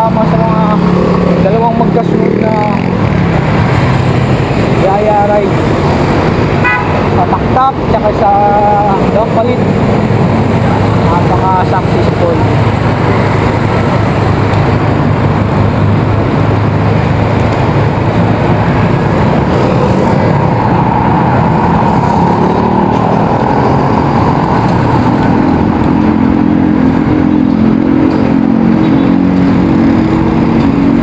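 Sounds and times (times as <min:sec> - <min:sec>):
engine hum: 0:00.0 - 0:31.0
passing traffic rush: 0:00.0 - 0:31.0.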